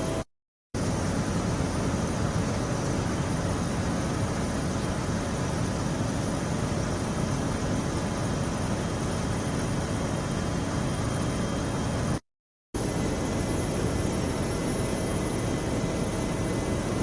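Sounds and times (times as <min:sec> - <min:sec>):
aircraft in flight: 0:00.0 - 0:12.2, 0:12.8 - 0:17.0.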